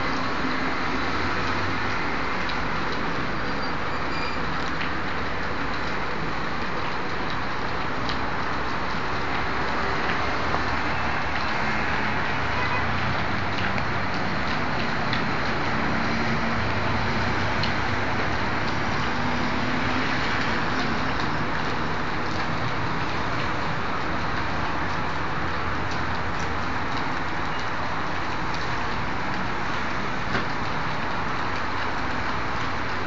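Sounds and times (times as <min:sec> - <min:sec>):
large fire burning: 0:00.0 - 0:33.0.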